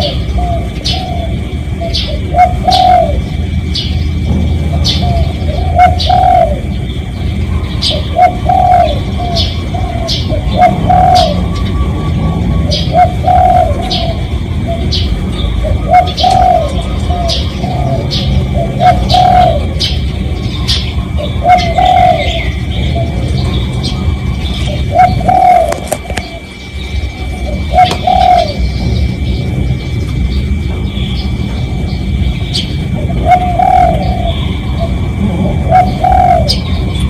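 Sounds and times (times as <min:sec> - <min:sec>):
dove cooing: 0:00.0 - 0:37.0
small birds chirping: 0:00.0 - 0:37.0
steady low rumble: 0:00.0 - 0:37.0.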